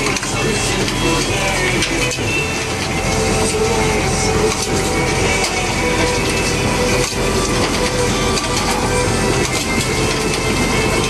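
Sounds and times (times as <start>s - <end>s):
boat engine droning: 0.0s - 11.0s
mechanical clatter and rattling: 0.0s - 11.0s.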